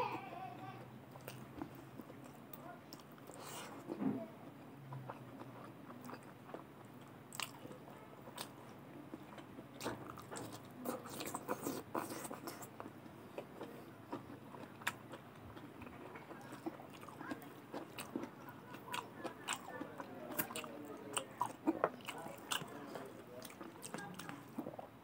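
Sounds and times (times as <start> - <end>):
person chewing food: 0.7 - 24.9.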